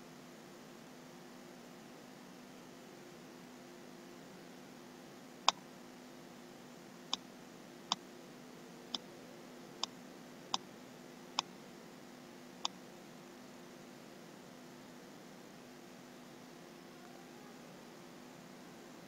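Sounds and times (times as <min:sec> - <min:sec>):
faint steady hiss and hum: 0:00.0 - 0:19.0.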